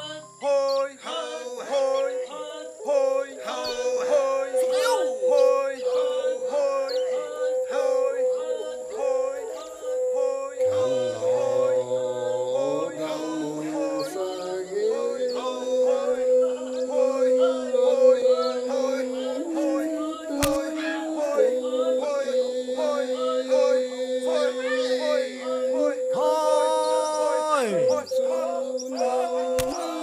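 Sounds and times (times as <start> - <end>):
voices singing without instruments: 0.0 - 30.0.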